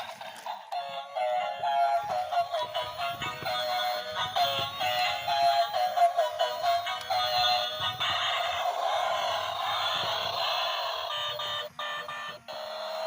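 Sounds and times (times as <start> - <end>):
cheerful electronic music: 0.0 - 13.0.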